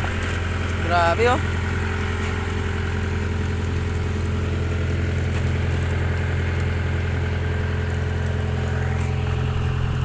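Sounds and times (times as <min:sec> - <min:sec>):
heavy engine droning: 0:00.0 - 0:10.0.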